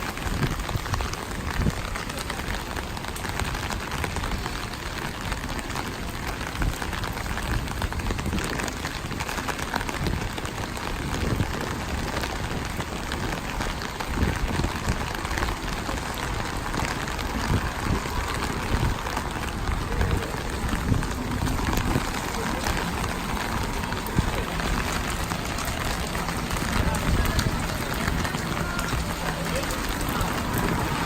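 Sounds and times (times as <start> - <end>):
rain spattering on surfaces: 0.0 - 31.0.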